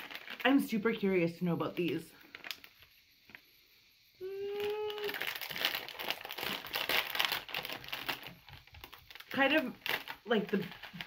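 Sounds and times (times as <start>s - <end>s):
foil snack bag crinkling: 0.0s - 3.4s, 4.4s - 11.0s.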